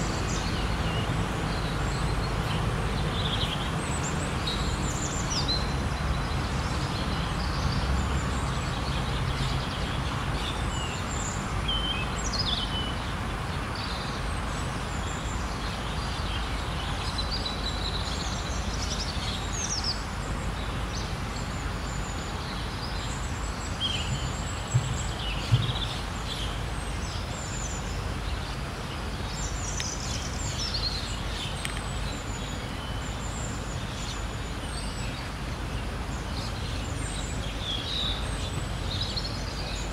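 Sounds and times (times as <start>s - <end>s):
background noise: 0.0s - 39.9s
birds chirping: 0.0s - 39.9s.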